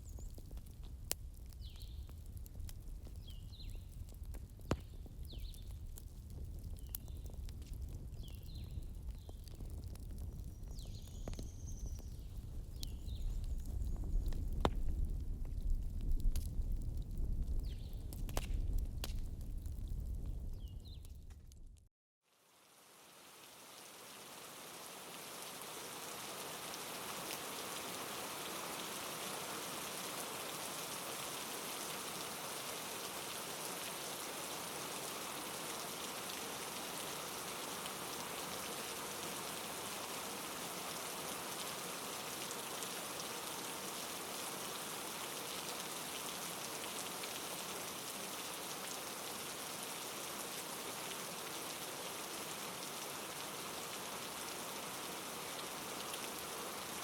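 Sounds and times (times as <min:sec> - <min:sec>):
steady falling rain: 0:00.0 - 0:57.0.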